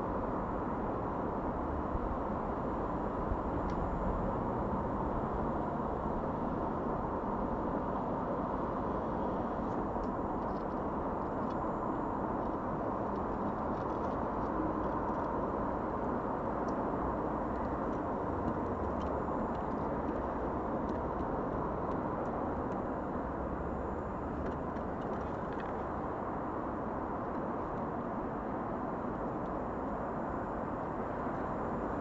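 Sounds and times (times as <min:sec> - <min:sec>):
outdoor rumble and hiss: 0:00.0 - 0:32.0.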